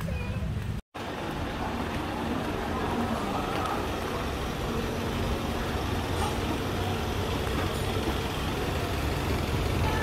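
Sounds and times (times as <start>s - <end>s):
street noise: 0.0s - 10.0s
vehicle engine droning: 1.0s - 10.0s.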